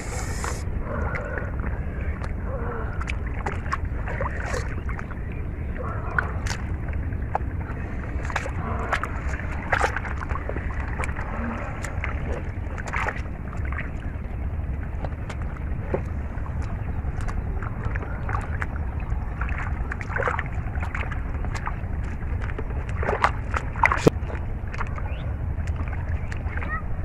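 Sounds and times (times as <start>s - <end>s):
shallow water splashing: 0.0s - 27.0s
wind rumble on microphone: 0.0s - 27.0s.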